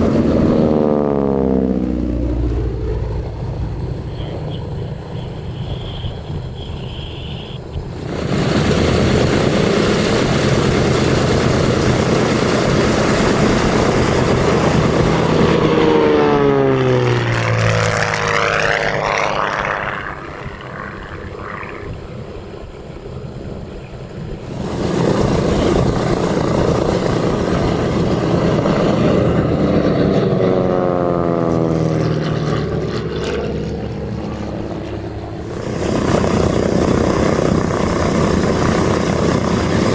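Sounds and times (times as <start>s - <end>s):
propeller plane passing by: 0.0s - 39.9s.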